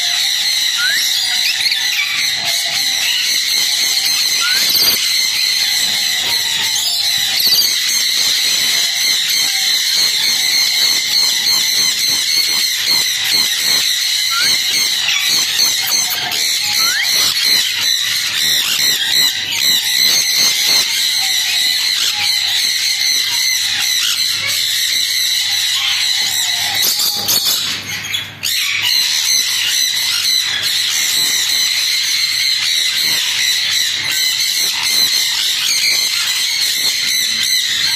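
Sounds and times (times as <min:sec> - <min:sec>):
parrots chattering and squawking: 0:00.0 - 0:37.9.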